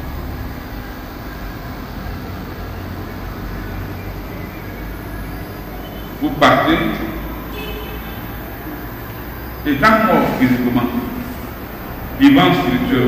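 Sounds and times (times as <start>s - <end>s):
room tone hum and hiss: 0.0s - 13.0s.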